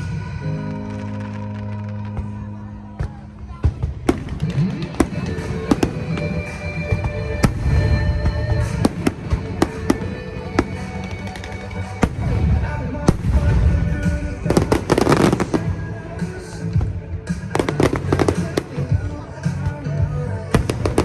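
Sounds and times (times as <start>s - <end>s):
fireworks crackling: 0.0s - 21.0s
music: 0.0s - 21.0s
fireworks bangs: 0.8s - 19.2s.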